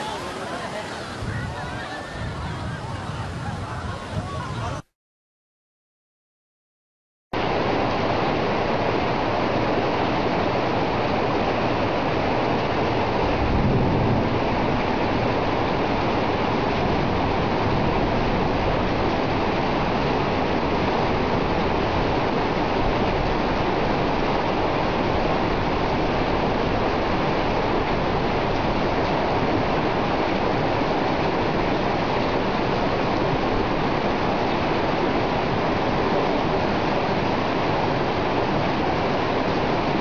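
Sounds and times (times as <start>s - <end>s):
flood water rushing: 0.0s - 4.8s, 7.4s - 40.0s.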